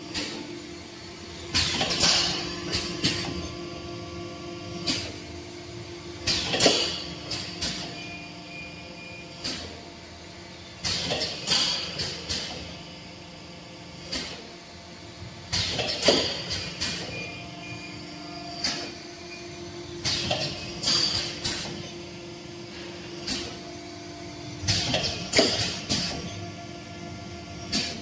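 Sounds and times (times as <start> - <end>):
motors and pumps humming: 0.0 - 28.0.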